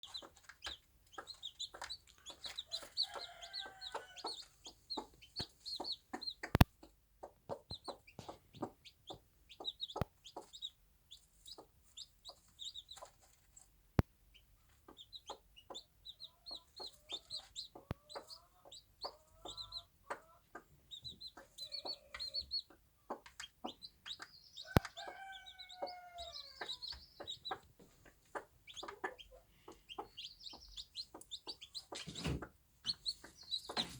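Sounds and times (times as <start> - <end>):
hen clucking: 0.0 - 13.5, 14.3 - 33.9
chicks peeping: 0.0 - 33.9.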